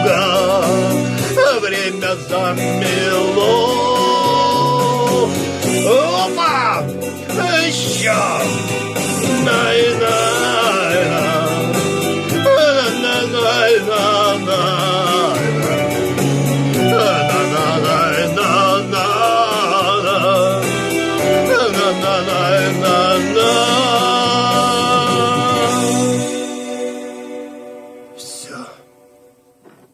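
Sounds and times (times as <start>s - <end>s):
steady drum beat: 0.0s - 26.2s
bass notes: 0.0s - 26.4s
wavering lead melody: 0.0s - 27.9s.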